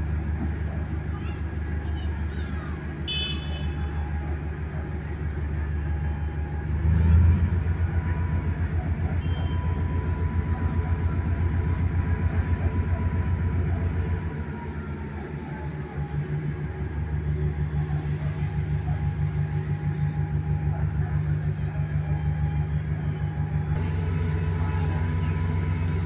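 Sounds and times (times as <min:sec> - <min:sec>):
train horn toot: 0:03.0 - 0:04.2, 0:05.9 - 0:26.0
train engine throbbing: 0:03.6 - 0:26.0.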